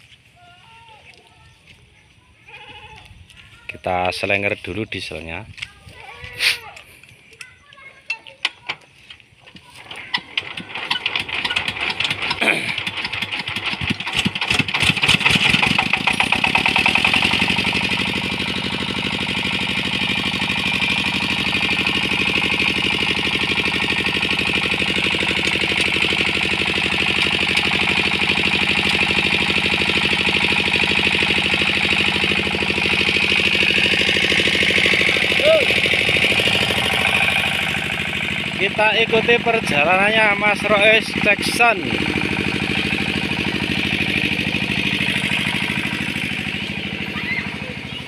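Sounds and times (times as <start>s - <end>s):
diesel engine chugging: 1.4s - 48.0s.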